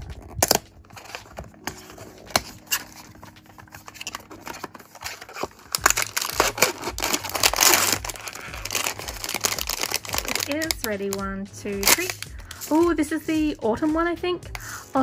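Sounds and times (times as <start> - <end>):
foil bag crinkling: 0.0 - 12.8.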